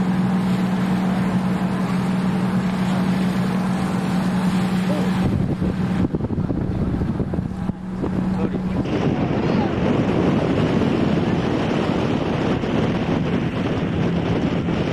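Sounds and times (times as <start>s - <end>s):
boat engine droning: 0.0s - 14.9s
wind rumbling on microphone: 0.0s - 14.9s.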